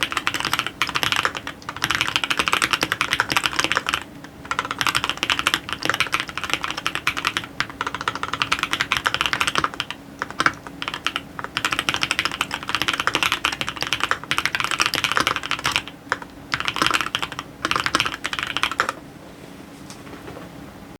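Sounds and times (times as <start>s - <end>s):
mechanical keyboard typing: 0.0s - 19.0s.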